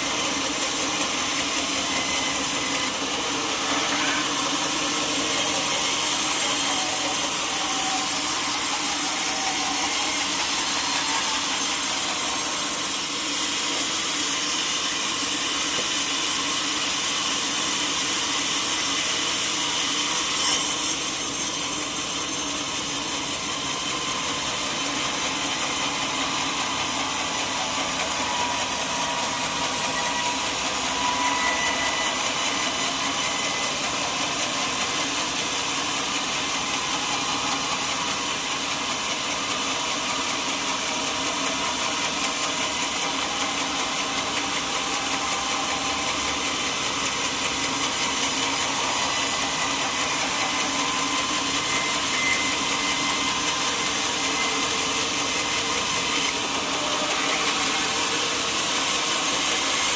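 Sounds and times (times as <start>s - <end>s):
sawmill saw cutting log: 0.0s - 59.9s.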